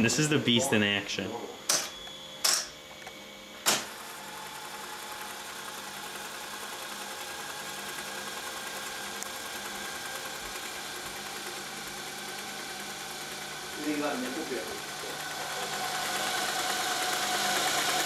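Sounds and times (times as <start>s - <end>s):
tape machine whirring hum: 0.0s - 18.0s.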